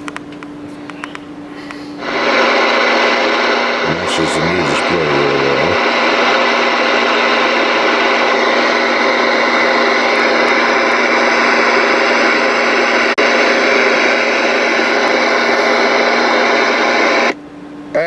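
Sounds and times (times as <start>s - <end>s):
buzzing radio interference: 2.0s - 17.4s.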